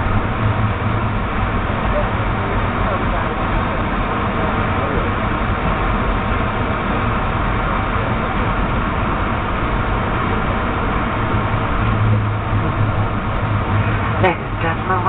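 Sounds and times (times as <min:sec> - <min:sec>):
aircraft rolling noise: 0:00.0 - 0:15.0
jet engines at low power: 0:00.0 - 0:15.0.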